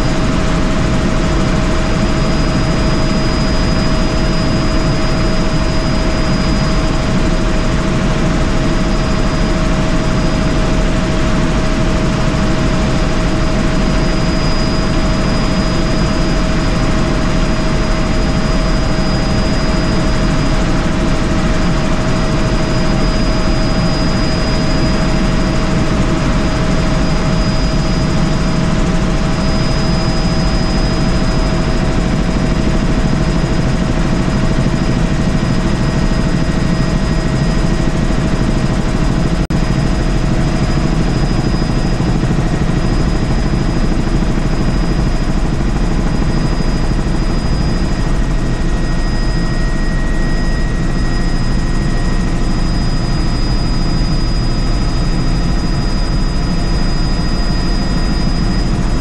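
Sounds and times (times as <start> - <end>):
constant engine whine: 0.0 - 59.0
helicopter rotor and engine rumble: 0.0 - 59.0.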